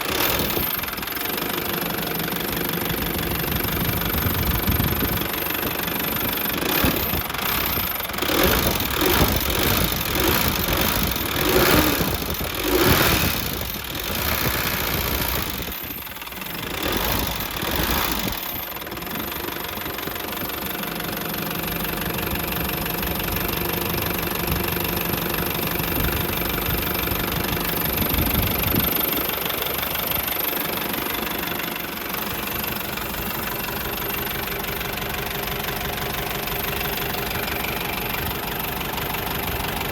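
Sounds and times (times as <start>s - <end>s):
diesel truck engine knocking idle: 0.0s - 39.9s.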